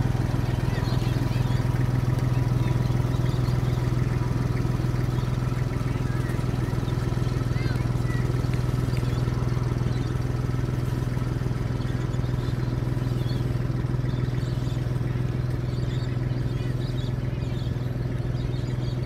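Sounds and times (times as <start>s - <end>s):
roller engine humming: 0.0s - 19.0s.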